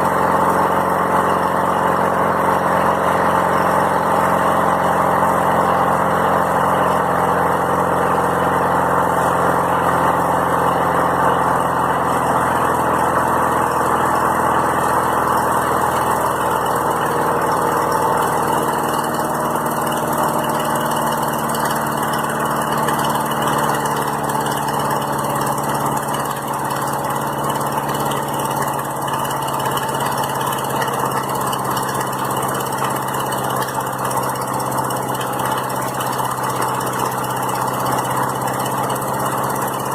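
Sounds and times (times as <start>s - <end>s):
small lawnmower engine running: 0.0s - 39.9s.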